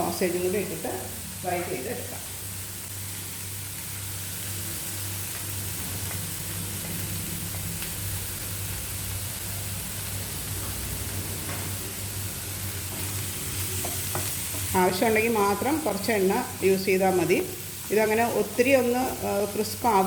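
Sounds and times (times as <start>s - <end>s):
bacon and sausage sizzling: 0.0s - 20.0s.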